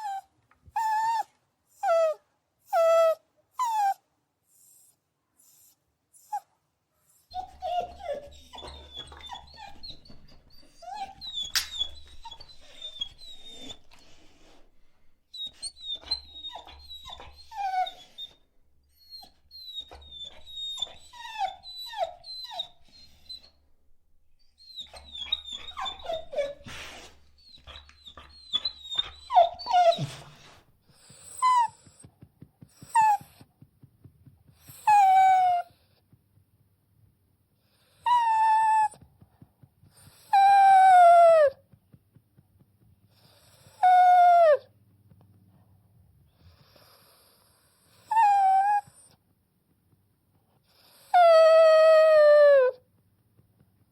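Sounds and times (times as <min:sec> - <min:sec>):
dogs whining and whimpering: 0:00.0 - 0:06.5, 0:07.1 - 0:32.1, 0:32.7 - 0:33.5, 0:34.5 - 0:36.0, 0:37.8 - 0:39.1, 0:39.9 - 0:41.8, 0:43.1 - 0:44.8, 0:46.4 - 0:49.3, 0:50.6 - 0:53.0.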